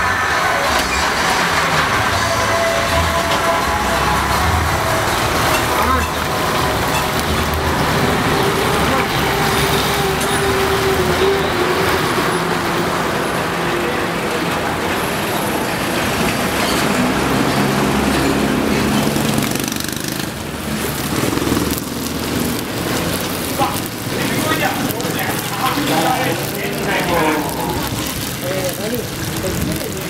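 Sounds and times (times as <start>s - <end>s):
street traffic: 0.0s - 30.0s
vehicle engine running: 0.0s - 30.0s.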